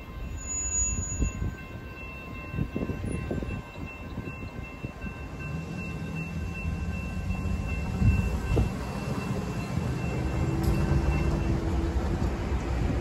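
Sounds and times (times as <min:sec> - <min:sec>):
traffic rumbling over level crossing: 0:01.4 - 0:13.0.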